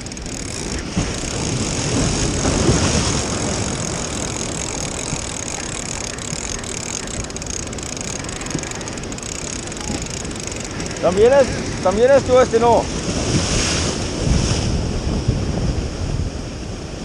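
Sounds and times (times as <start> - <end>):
surf washing against rocks: 0.0 - 17.0.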